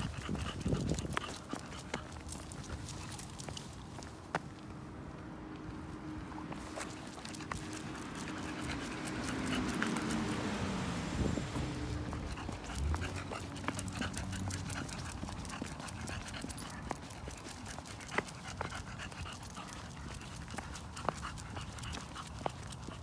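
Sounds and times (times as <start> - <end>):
dog panting: 0.0 - 4.1, 6.6 - 10.7, 11.5 - 23.0.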